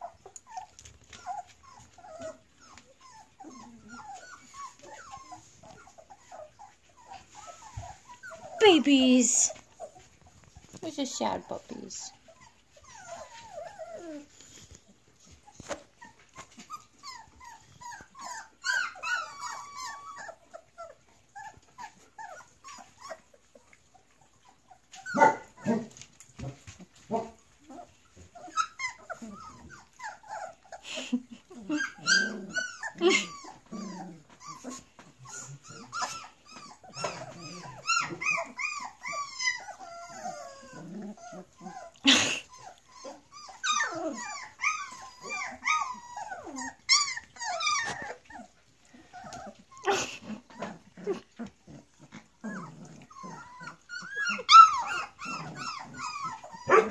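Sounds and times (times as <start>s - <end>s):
puppies whining and yipping: 0.0s - 56.9s.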